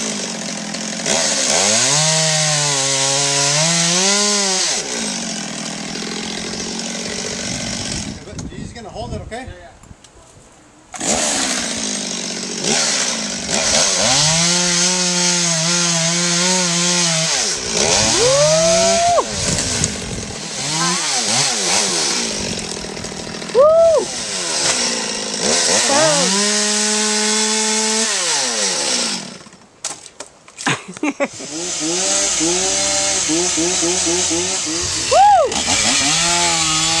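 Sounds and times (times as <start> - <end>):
chainsaw cutting and revving: 0.0 - 8.3, 10.9 - 29.7, 30.7 - 37.0.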